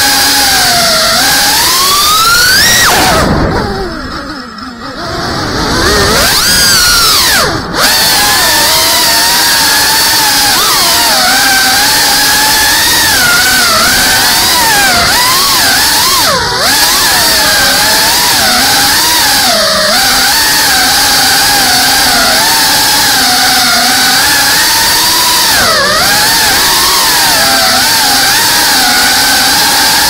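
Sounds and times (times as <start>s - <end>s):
drone propellers whining: 0.0s - 30.0s.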